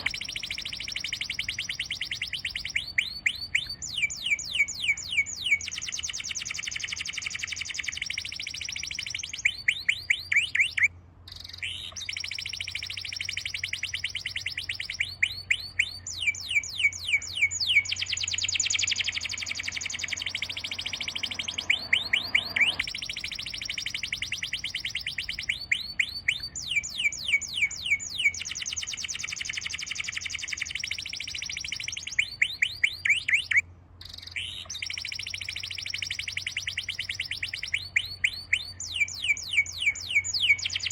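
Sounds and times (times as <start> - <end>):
bird song trills and whistles: 0.0 - 40.9.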